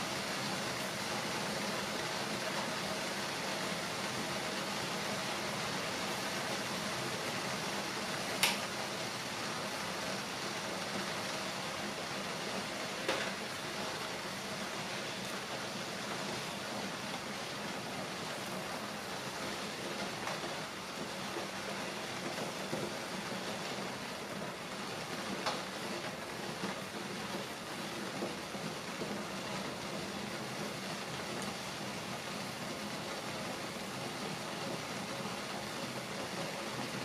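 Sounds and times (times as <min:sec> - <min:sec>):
gas stove burner hissing: 0:00.0 - 0:37.0.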